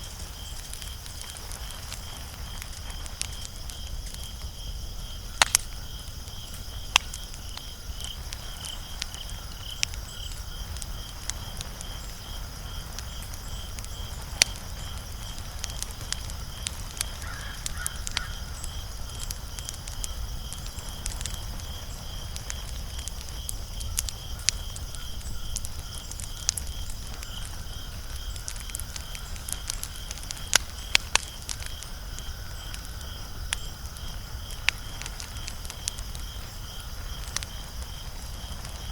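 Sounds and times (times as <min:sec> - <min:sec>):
high pulsing insect chirp: 0:00.0 - 0:38.9
wood fire crackling: 0:00.0 - 0:38.9.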